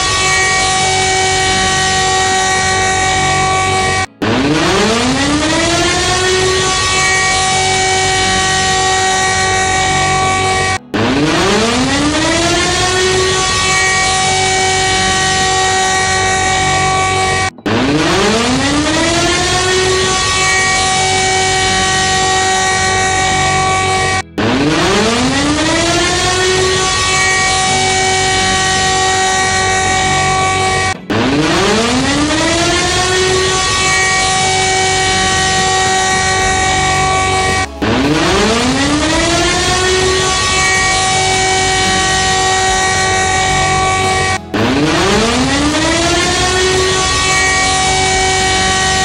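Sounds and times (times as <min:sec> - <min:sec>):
continuous buzzing alarm tone: 0:00.0 - 0:49.0
siren winding up: 0:00.0 - 0:49.0.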